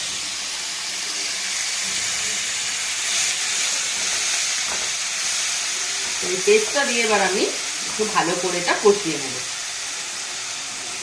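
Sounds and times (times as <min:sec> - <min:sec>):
spice paste sizzling in hot oil: 0:00.0 - 0:11.0.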